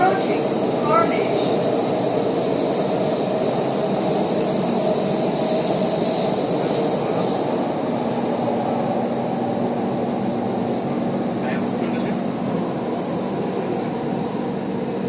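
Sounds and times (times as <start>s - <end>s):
train rumbling through tunnel: 0.0s - 15.0s.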